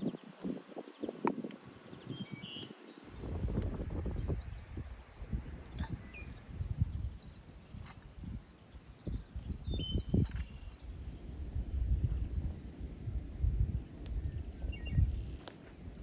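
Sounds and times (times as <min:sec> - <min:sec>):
small birds chirping: 0:00.0 - 0:12.9, 0:14.0 - 0:16.0.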